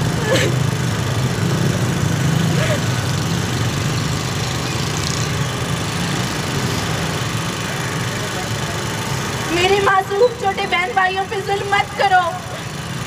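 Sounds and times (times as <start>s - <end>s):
street noise: 0.0s - 13.0s
traffic engines idling: 0.0s - 13.0s.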